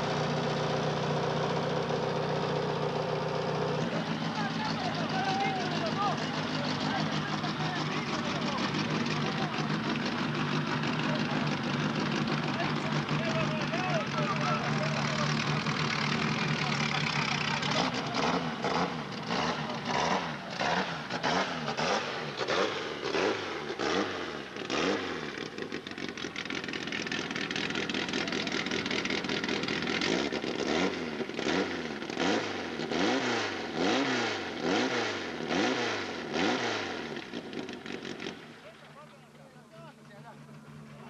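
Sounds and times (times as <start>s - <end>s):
racing car engine revving: 0.0s - 39.2s.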